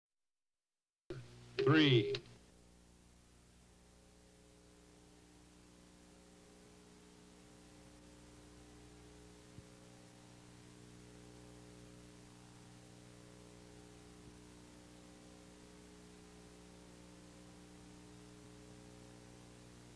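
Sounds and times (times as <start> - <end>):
low electrical hum with hiss: 1.1 - 19.9.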